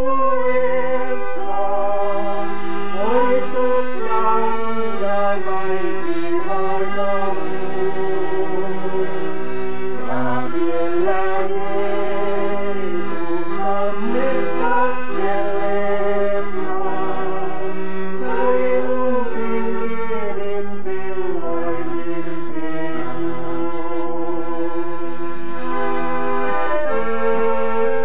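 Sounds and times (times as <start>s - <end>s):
two accordions playing chords: 0.0s - 28.0s.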